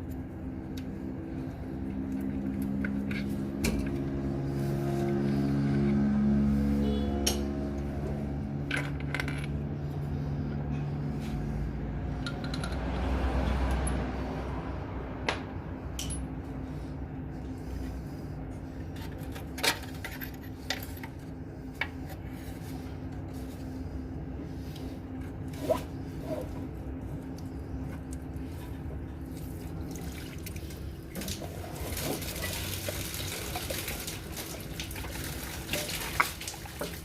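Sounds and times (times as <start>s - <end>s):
engine running: 0.0s - 36.2s
steady low hum: 0.0s - 37.0s.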